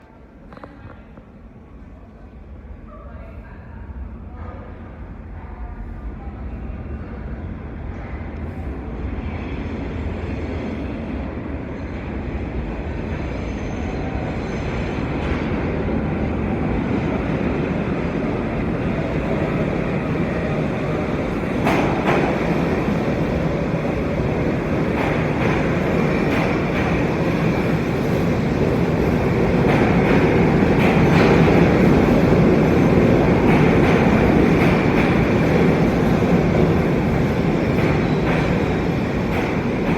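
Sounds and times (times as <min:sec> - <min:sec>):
subway train rumble: 0:00.0 - 0:39.9.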